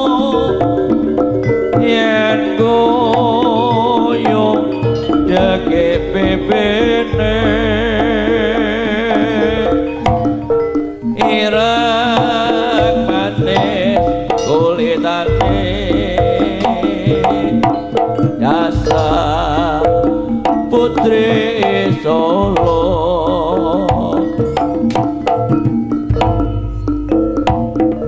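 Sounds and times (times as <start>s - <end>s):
hand drum strokes: 0.0s - 28.0s
ringing metal tones: 0.0s - 28.0s
wavering lead melody: 0.0s - 28.0s.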